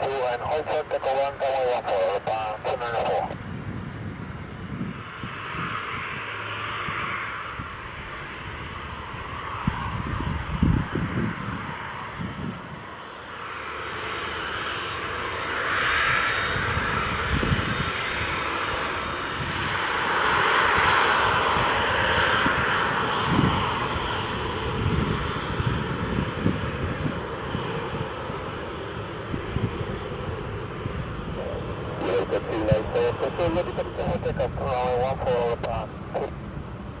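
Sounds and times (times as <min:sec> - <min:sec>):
aircraft engines running: 0:00.0 - 0:37.0.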